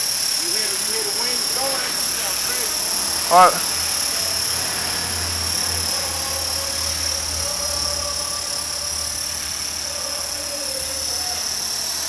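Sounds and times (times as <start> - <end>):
helicopter rotor drone: 0.0 - 12.0
high whine: 0.0 - 12.0.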